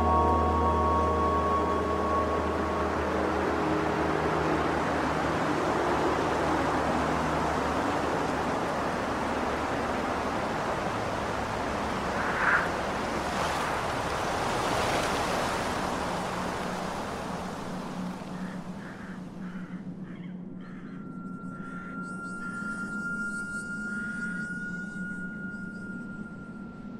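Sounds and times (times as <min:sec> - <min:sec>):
ambient noise wash: 0:00.0 - 0:26.9
faint steady tone: 0:00.0 - 0:26.9.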